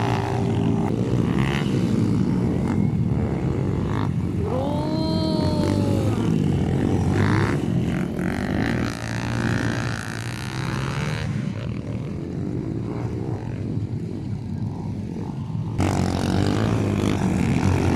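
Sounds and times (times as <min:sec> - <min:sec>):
dirt bike engines revving: 0:00.0 - 0:17.9.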